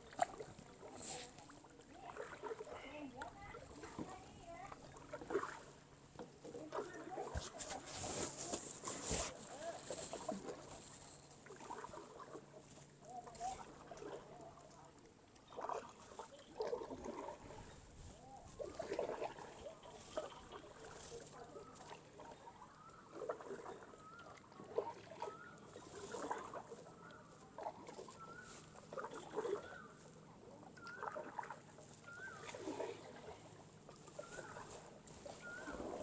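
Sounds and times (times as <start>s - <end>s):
paddle strokes through water: 0.0s - 36.0s.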